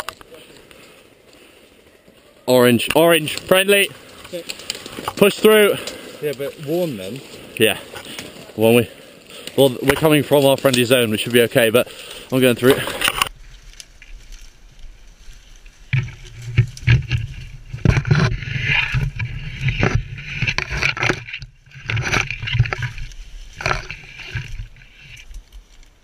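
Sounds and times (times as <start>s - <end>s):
branches scraping and snapping: 0.0s - 26.0s.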